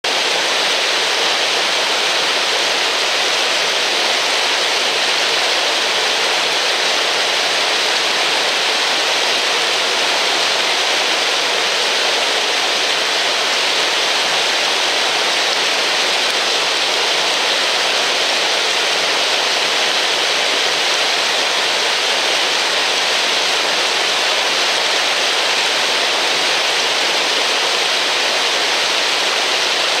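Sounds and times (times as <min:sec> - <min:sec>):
stream water rushing over rock: 0:00.0 - 0:30.0.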